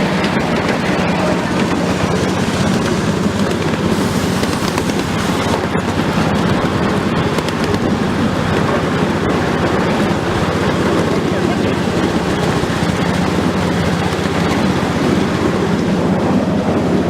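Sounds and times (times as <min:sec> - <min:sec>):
train car rumbling and rattling: 0:00.0 - 0:17.0.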